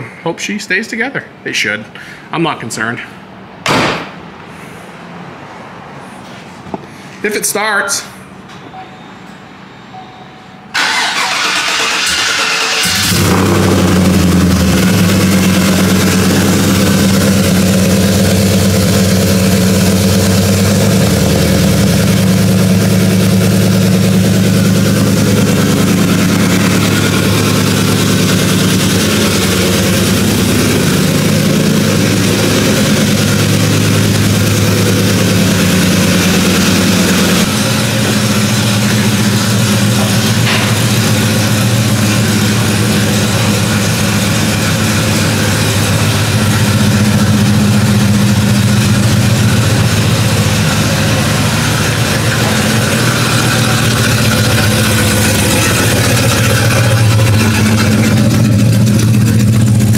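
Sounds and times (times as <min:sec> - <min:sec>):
car engine idling: 0:10.7 - 0:59.9.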